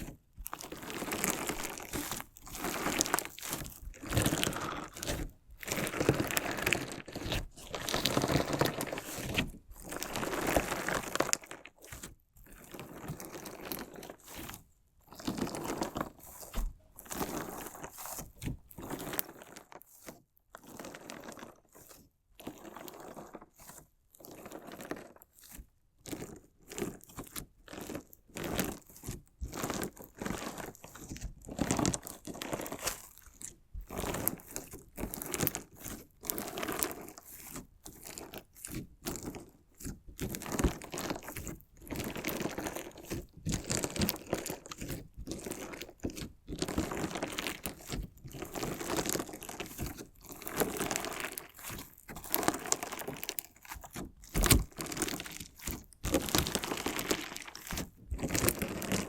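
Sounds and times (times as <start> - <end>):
slime with stones crunching by hand: 0.0 - 19.7, 26.1 - 59.0.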